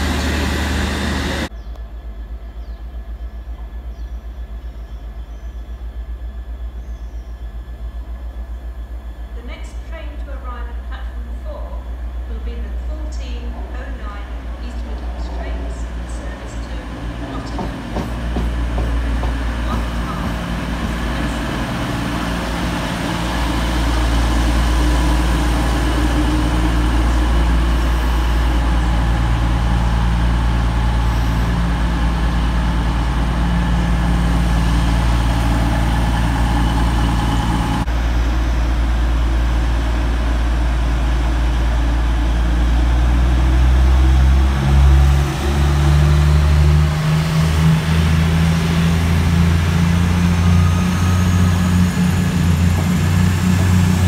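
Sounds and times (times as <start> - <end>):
train diesel engines droning: 0.0 - 54.0.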